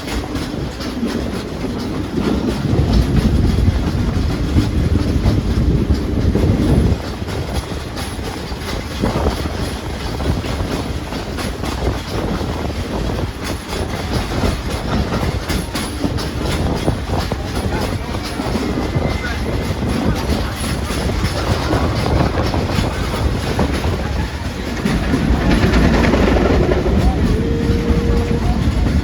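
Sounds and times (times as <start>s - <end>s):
train cars rumbling on rails: 0.0s - 29.0s.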